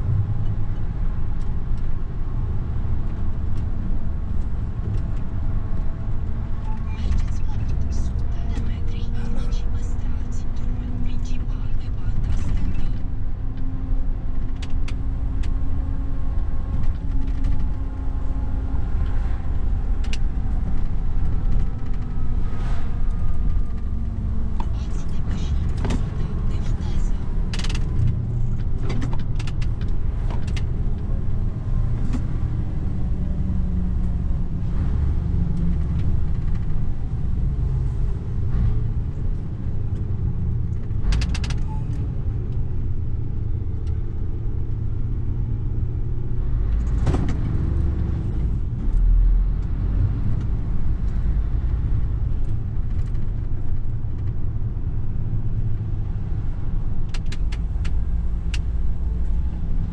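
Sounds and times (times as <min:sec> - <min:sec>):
road rumble: 0:00.0 - 0:59.9
truck diesel engine drone: 0:00.0 - 0:59.9.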